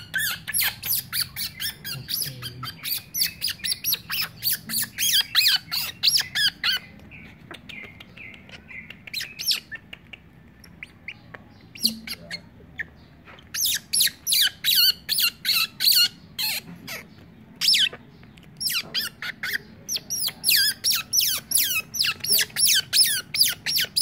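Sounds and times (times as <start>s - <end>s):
otter pup squeaking: 0.0s - 24.0s.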